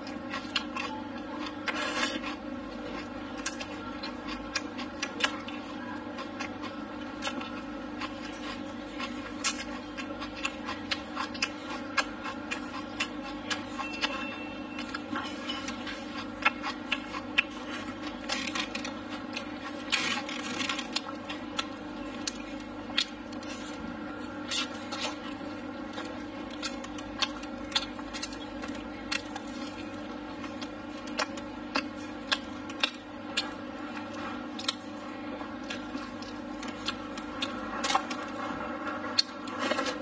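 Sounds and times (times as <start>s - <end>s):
steady hum: 0.0s - 40.0s.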